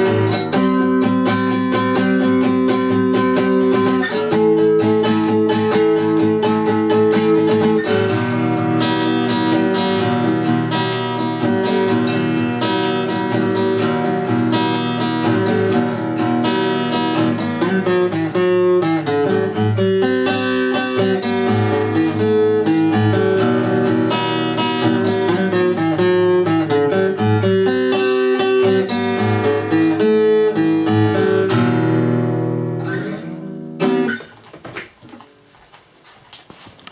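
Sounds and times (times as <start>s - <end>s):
acoustic guitar strumming chords: 0.0s - 35.4s.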